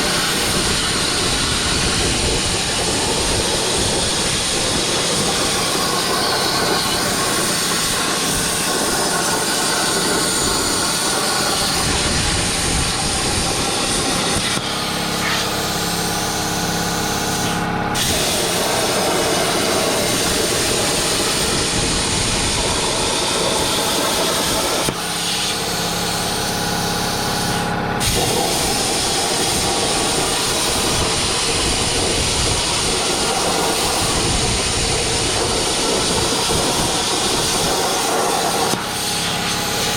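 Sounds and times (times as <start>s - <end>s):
plasma cutter hissing: 0.0s - 39.9s
steady humming tone: 0.0s - 39.9s.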